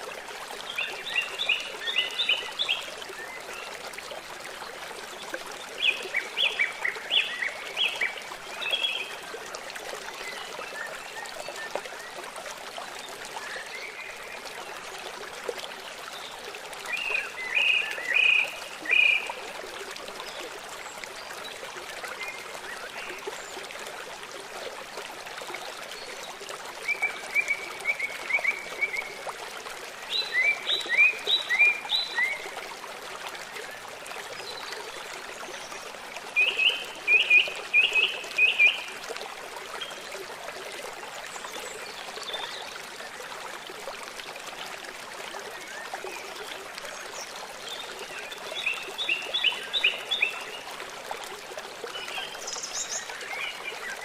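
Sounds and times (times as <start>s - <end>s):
babbling stream: 0.0s - 54.0s.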